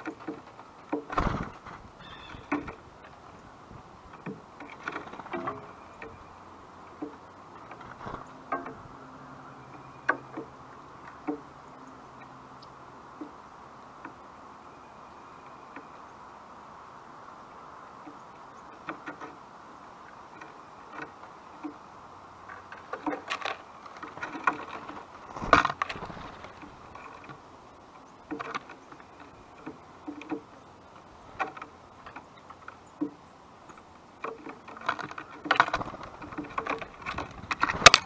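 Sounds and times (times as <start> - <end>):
birds tapping at feeder: 0.0 - 16.4, 17.0 - 38.0
faint steady hum: 0.0 - 38.0.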